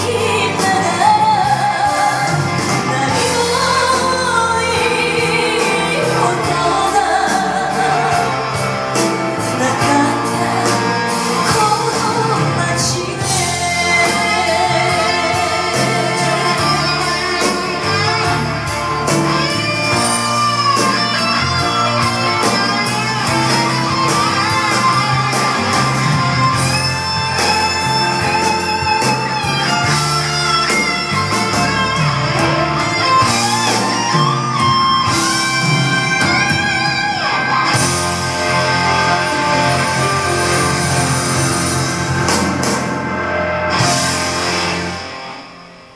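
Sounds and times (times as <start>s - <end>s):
pop ballad band instrumental: 0.0s - 45.9s.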